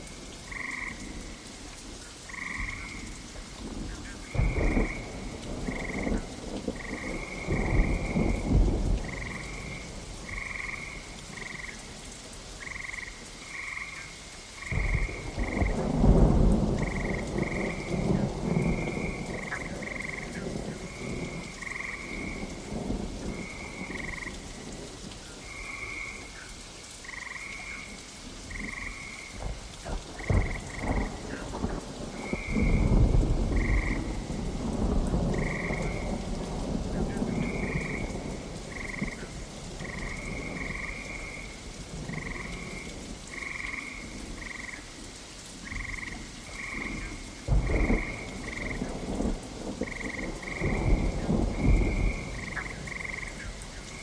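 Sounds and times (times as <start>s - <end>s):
frogs croaking: 0.0s - 54.0s
steady rain: 0.0s - 54.0s
thunder rumbling: 2.3s - 11.7s, 14.6s - 26.3s, 27.5s - 44.8s, 45.6s - 54.0s.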